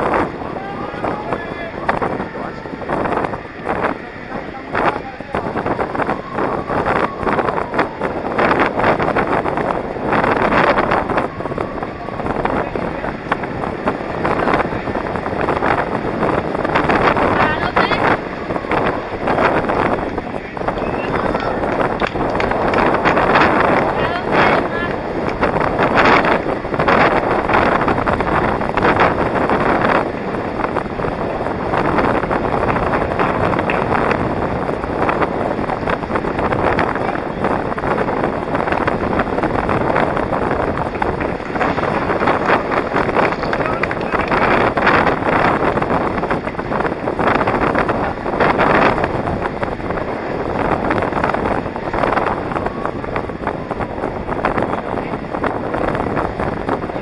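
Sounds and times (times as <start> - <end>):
skate wheels rolling on asphalt: 0.0 - 57.0
wind buffeting microphone: 0.0 - 57.0.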